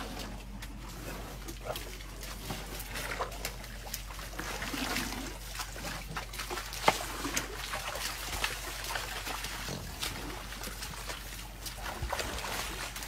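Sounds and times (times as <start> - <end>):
muddy water splashing: 0.0 - 13.0.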